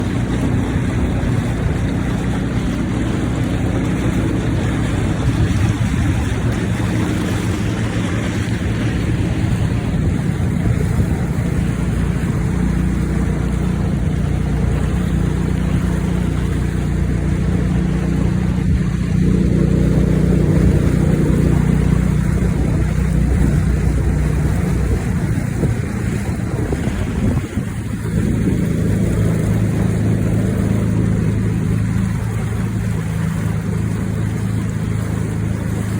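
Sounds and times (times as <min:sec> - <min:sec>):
motorboat engine running: 0:00.0 - 0:35.9.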